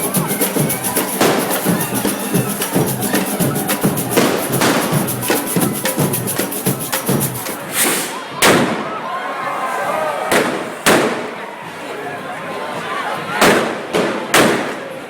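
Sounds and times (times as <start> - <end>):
crowd noise: 0.0 - 15.0
voices: 0.0 - 15.0.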